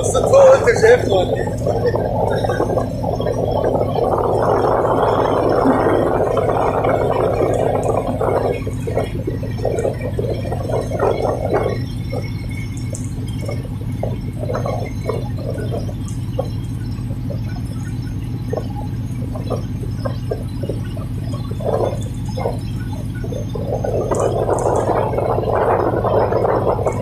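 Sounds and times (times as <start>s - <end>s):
diesel engines humming: 0.0s - 27.0s
rough dense noise spurts: 0.0s - 27.0s.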